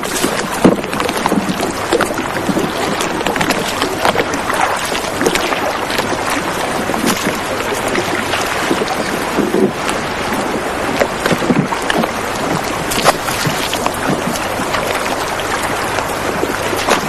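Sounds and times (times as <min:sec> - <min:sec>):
water splashing around rowboat: 0:00.0 - 0:17.0.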